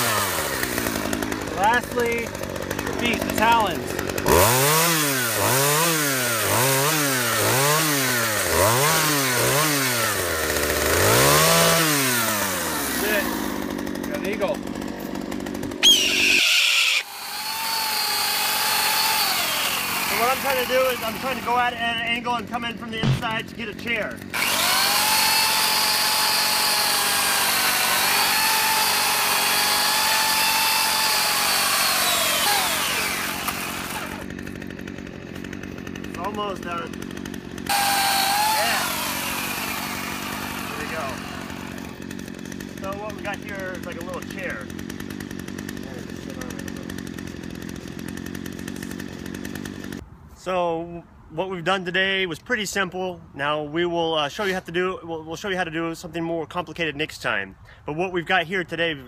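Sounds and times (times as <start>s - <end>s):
chainsaw engine revving: 0.0s - 50.0s.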